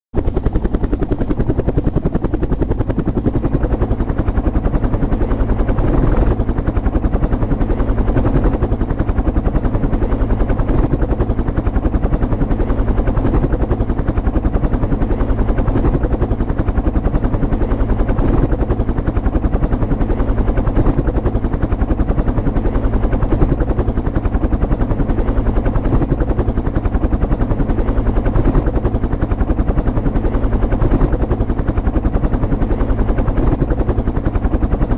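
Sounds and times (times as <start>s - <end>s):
helicopter rotor beating: 0.2s - 34.9s.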